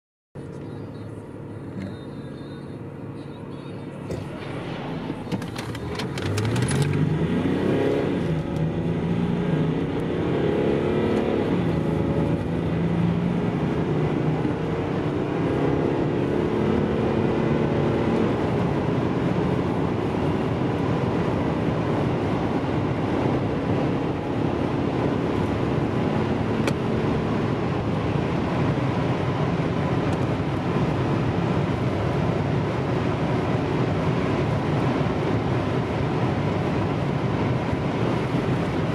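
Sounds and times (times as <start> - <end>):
diesel engine accelerating: 0.4 - 38.9
road and wind noise: 0.4 - 38.9.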